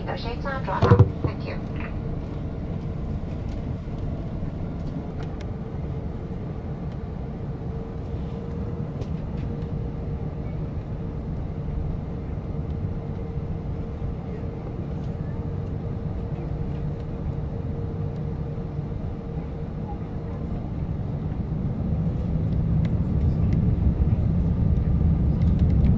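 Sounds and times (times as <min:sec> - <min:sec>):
low rumble of aircraft engines: 0:00.0 - 0:25.9.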